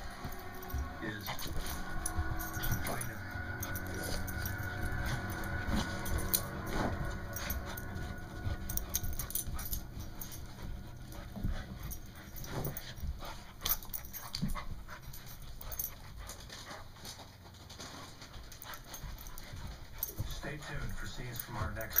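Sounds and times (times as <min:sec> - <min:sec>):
clicks and scuffles of dogs: 0:00.0 - 0:22.0.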